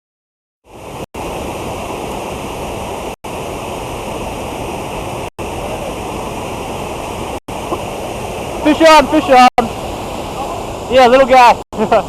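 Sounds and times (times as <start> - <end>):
steady rushing noise: 0.7 - 12.0.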